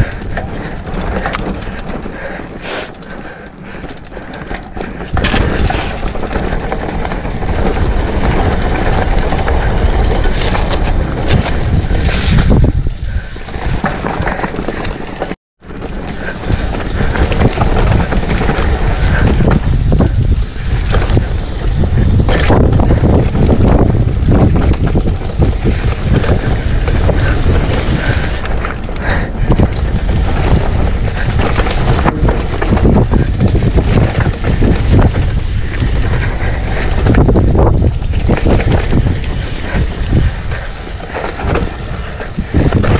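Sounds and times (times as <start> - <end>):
bike rattling over bumps: 0.0 - 42.9
tyre rumble: 0.0 - 42.9
wind buffeting microphone: 0.0 - 42.9.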